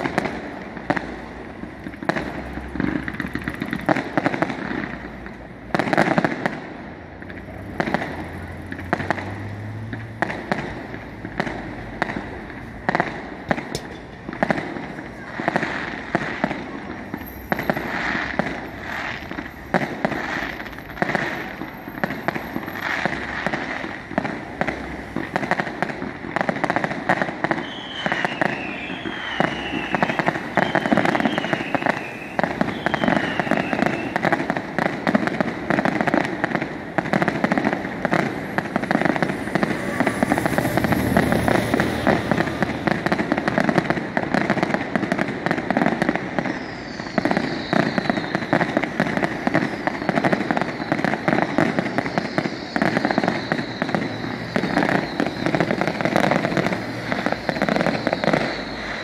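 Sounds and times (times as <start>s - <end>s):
falling firework whistles: 0.0s - 6.6s, 7.7s - 59.0s
firework bursts and crackling: 0.0s - 59.0s.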